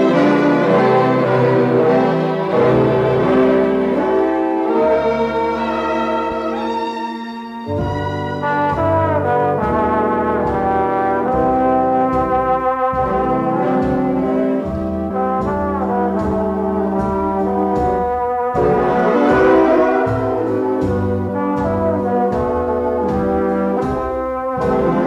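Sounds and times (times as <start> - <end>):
orchestral pop music with brass: 0.0 - 25.0.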